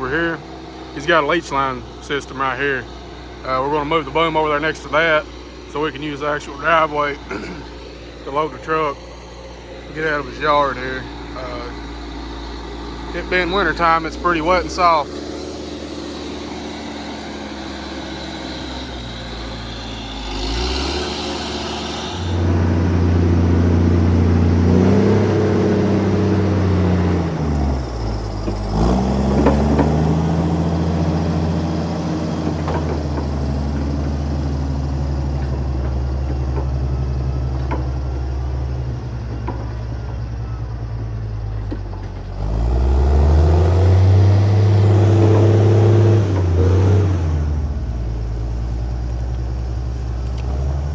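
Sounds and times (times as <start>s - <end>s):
heavy diesel engine revving: 0.0s - 50.9s.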